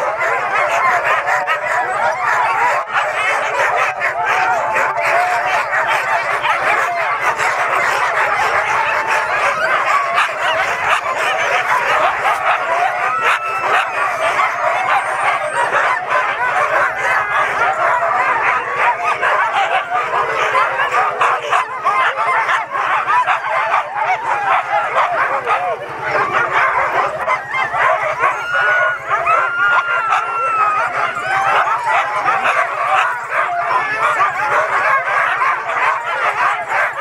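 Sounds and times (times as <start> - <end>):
sled dogs barking and yelping: 0.0 - 37.0.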